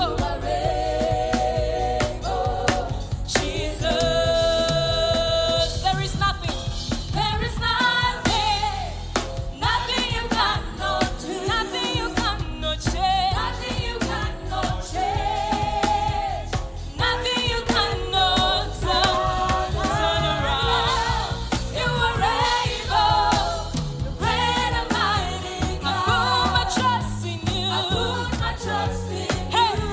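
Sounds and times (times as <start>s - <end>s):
band with bass and drums: 0.0s - 29.9s
singers with vibrato: 0.0s - 29.9s.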